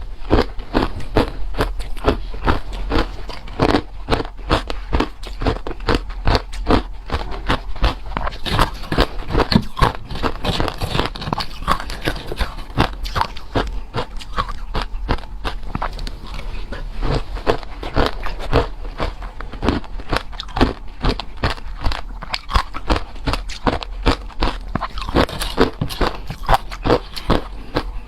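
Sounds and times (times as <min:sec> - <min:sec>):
ice crunching between teeth: 0:00.2 - 0:28.0.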